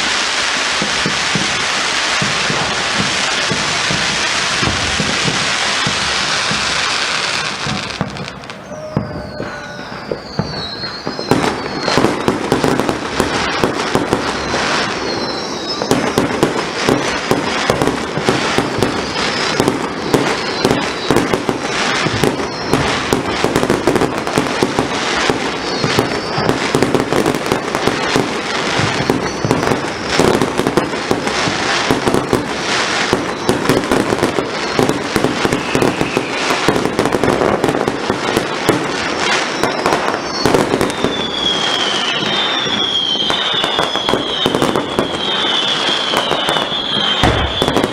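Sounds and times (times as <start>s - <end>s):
firework whistles: 0.0s - 47.9s
fireworks bangs and crackling: 0.0s - 47.9s.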